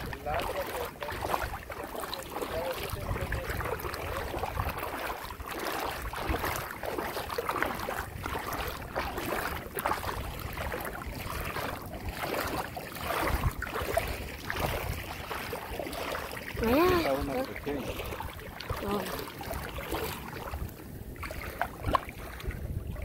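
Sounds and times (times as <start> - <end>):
bare feet wading through water: 0.0 - 23.0.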